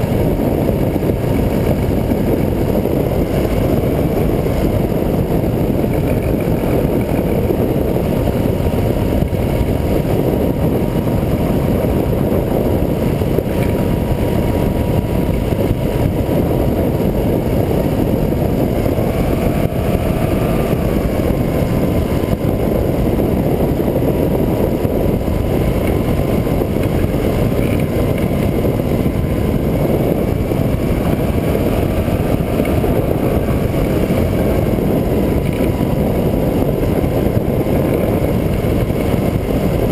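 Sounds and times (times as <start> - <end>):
two-stroke engine droning: 0.0 - 39.9.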